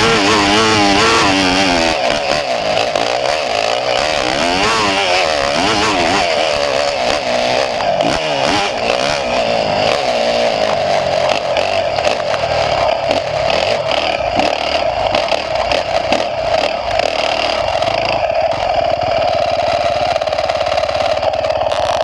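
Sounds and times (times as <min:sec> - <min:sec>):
small engine revving: 0:00.0 - 0:22.0.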